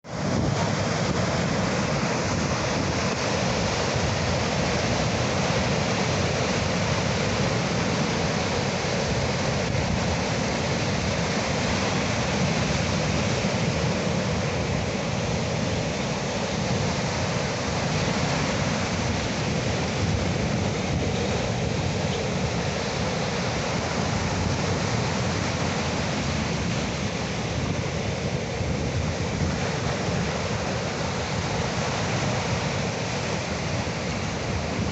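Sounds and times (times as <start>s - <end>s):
sea surf washing on shore: 0.0s - 34.9s.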